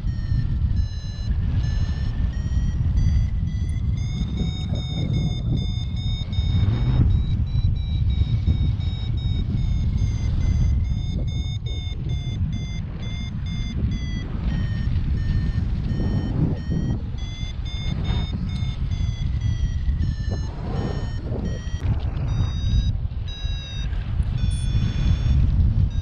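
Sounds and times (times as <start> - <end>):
variometer beeping: 0.0 - 26.0
wind rushing on microphone: 0.0 - 26.0.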